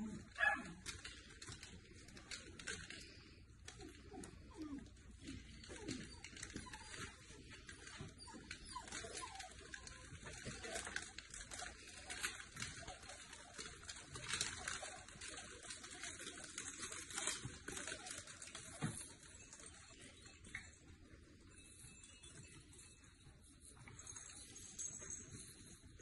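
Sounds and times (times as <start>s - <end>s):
puppy sounds: 0.0s - 26.0s
small paws pattering and scuffling: 0.0s - 26.0s.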